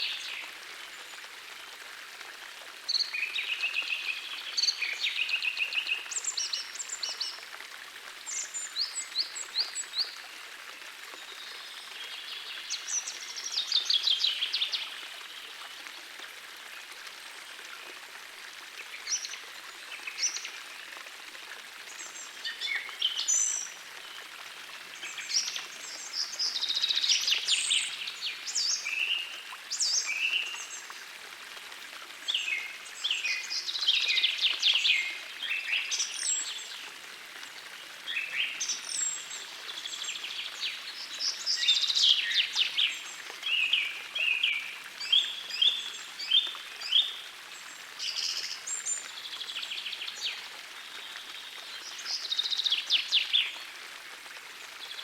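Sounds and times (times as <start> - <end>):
forest stream rushing: 0.0 - 55.0.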